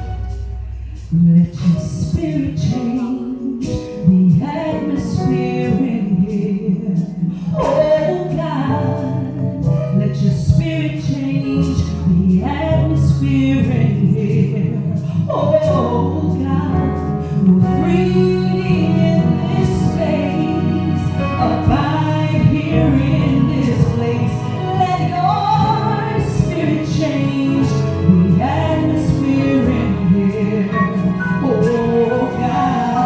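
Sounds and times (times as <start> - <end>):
instrumental accompaniment: 0.0 - 33.0
woman singing gospel song: 1.0 - 33.0.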